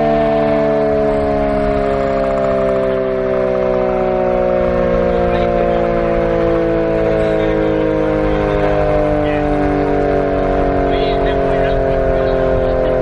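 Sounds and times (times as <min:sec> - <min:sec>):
mechanical air raid siren wailing: 0:00.0 - 0:13.0.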